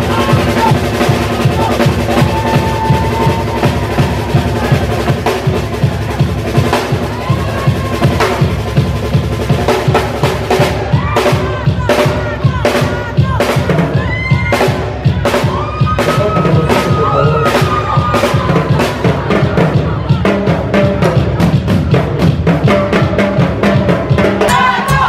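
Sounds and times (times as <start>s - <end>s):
cumbia band playing: 0.0s - 25.0s
drum kit beat: 0.0s - 25.0s.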